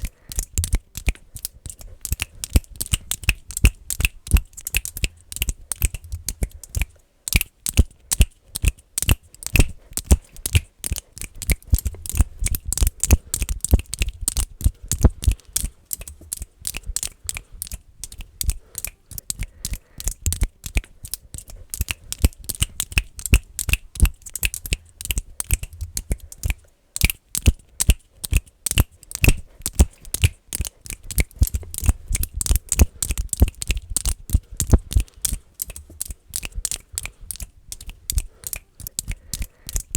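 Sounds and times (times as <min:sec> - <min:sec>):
fast finger clicking: 0:00.0 - 0:39.9.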